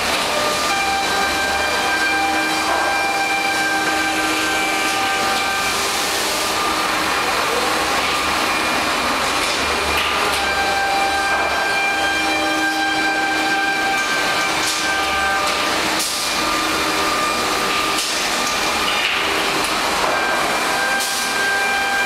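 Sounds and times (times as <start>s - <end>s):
machine whining tones: 0.0s - 22.0s
machinery running: 0.0s - 22.0s.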